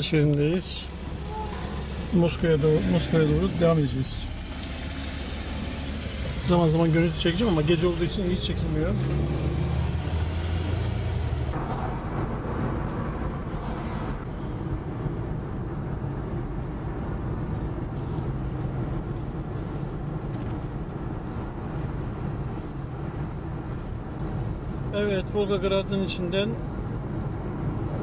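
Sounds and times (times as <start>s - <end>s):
car road noise hum: 0.0s - 28.0s.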